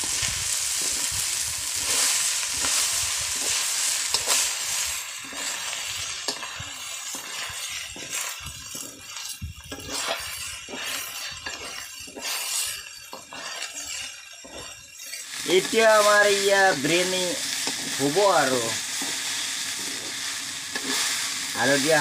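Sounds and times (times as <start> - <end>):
metal spatula scraping a pan: 0.2 - 22.0.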